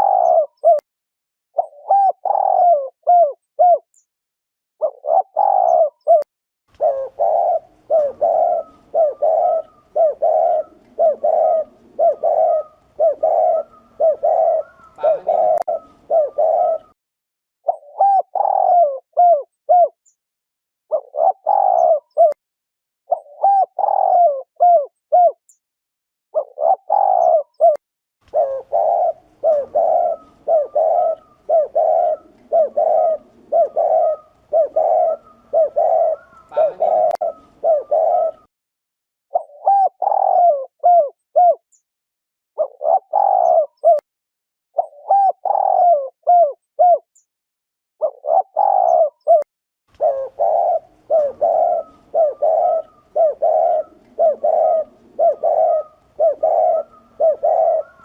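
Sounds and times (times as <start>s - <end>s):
dove cooing: 0.0s - 0.8s, 1.6s - 3.9s, 4.8s - 17.0s, 17.7s - 20.0s, 20.9s - 22.4s, 23.1s - 25.4s, 26.4s - 38.5s, 39.3s - 41.6s, 42.6s - 44.0s, 44.8s - 47.1s, 48.0s - 58.0s.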